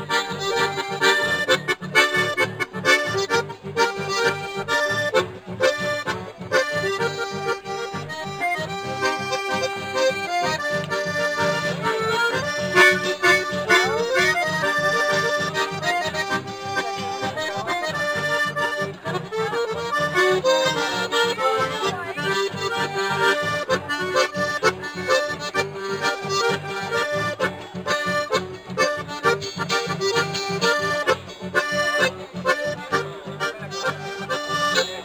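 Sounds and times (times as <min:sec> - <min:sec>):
accordion playing melody: 0:00.0 - 0:35.0.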